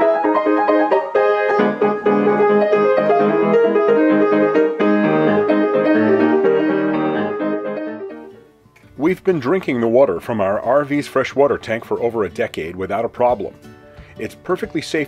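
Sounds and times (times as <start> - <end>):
lively piano tune: 0.0 - 15.0.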